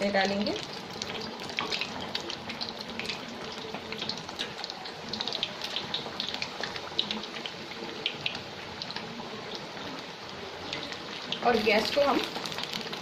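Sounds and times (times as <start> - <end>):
dough deep-frying in oil: 0.0 - 13.0.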